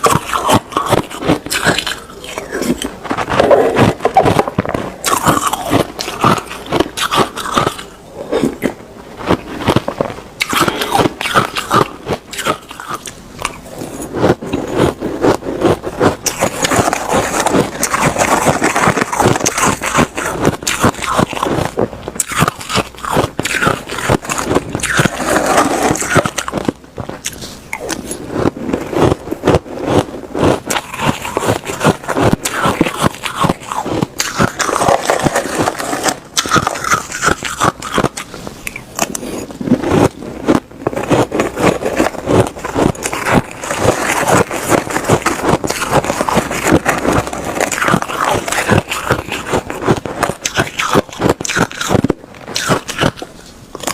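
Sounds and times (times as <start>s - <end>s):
ice crunching while chewed: 0.0s - 53.9s.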